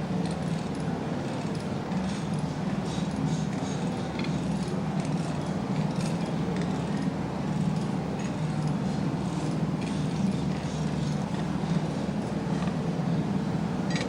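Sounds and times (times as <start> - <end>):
low mechanical drone: 0.0 - 14.0.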